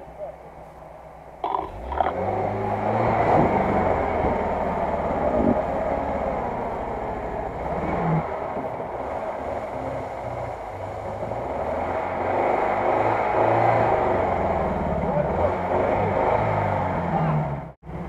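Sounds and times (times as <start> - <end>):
off-road vehicle engine under load: 0.0 - 18.0.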